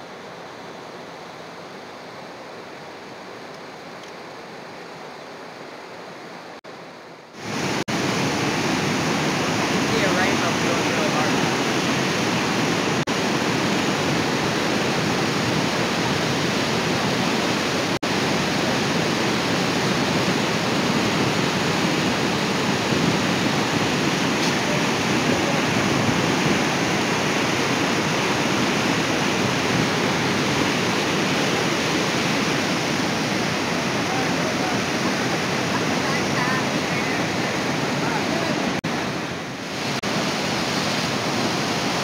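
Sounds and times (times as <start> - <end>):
whitewater roaring over boulders: 0.0 - 42.0.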